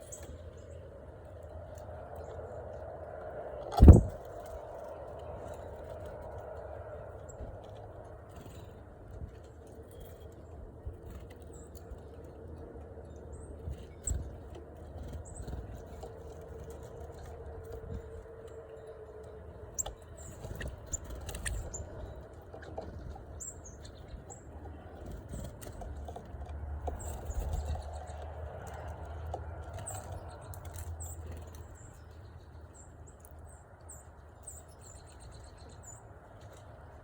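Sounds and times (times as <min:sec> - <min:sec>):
small birds chirping: 0:00.0 - 0:02.8, 0:03.8 - 0:37.0
low steady rumble: 0:00.0 - 0:34.3.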